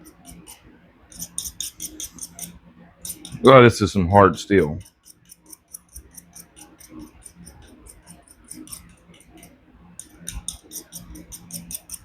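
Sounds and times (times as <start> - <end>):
knife scraping on sharpening bar: 0.0 - 3.4, 4.8 - 12.0.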